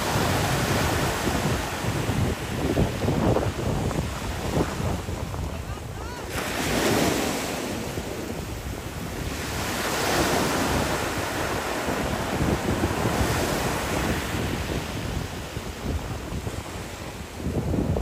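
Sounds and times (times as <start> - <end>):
ocean surf breaking over rocks: 0.0 - 18.0.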